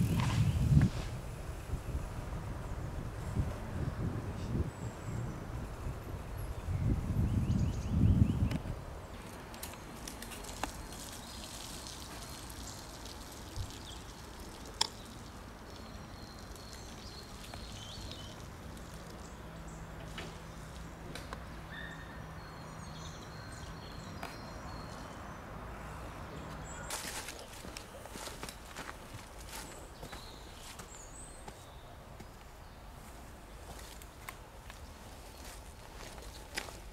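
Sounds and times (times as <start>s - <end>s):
steady background hiss: 0.0s - 36.9s.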